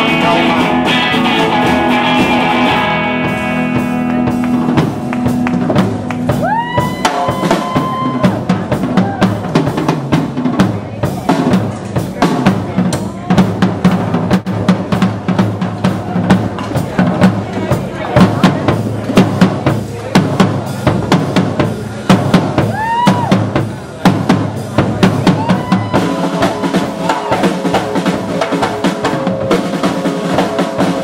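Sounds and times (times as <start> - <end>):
rock drum solo: 0.0 - 31.0.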